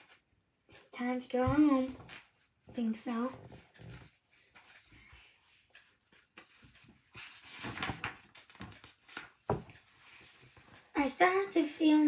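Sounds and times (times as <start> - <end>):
book pages turning: 1.4 - 11.2
paper rustling: 1.4 - 11.2.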